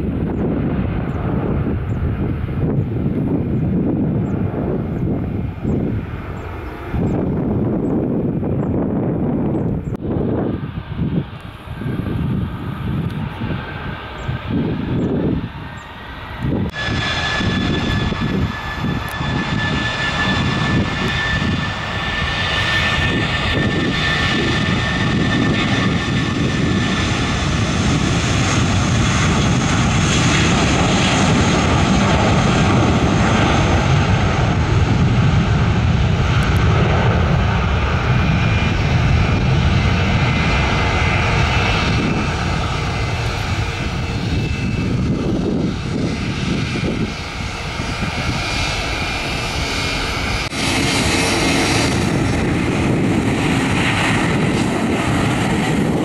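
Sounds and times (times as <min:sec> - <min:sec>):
jet engines at takeoff power: 0:00.0 - 0:56.0.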